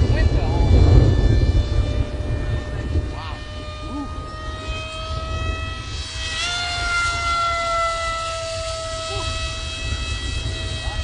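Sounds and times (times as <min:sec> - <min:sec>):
model plane motors whining: 0:00.0 - 0:11.0.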